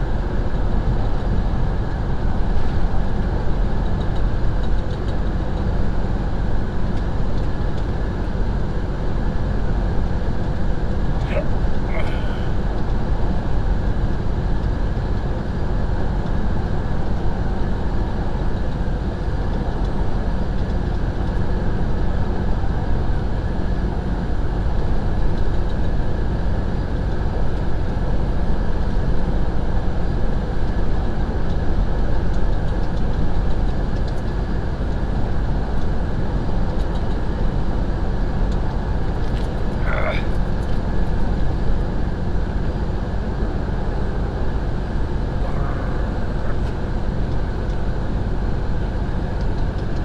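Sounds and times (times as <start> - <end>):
truck cab road and engine rumble: 0.0 - 50.0.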